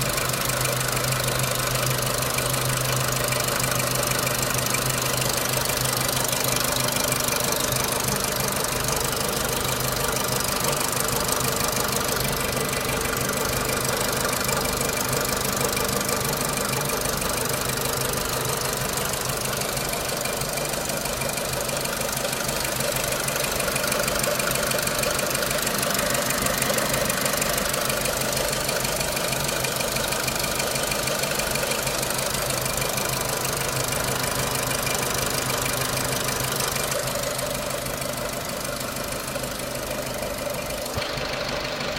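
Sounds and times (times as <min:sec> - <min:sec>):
car engine running with knock: 0:00.0 - 0:41.9.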